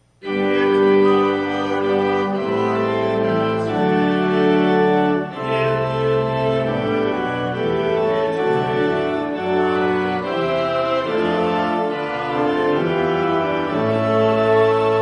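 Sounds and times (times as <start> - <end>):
church organ playing held chords: 0.0 - 15.0.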